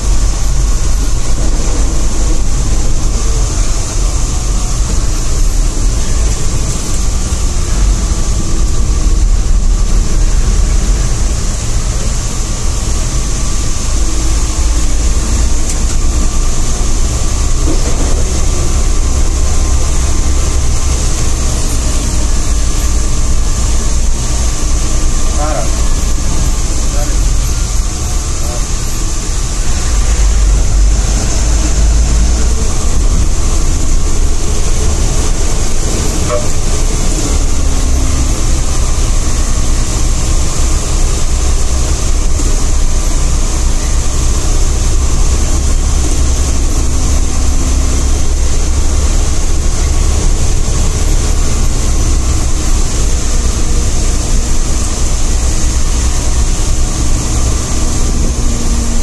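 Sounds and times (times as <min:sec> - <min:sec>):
bus engine and road rumble: 0:00.0 - 0:59.0
constant hiss: 0:00.0 - 0:59.0.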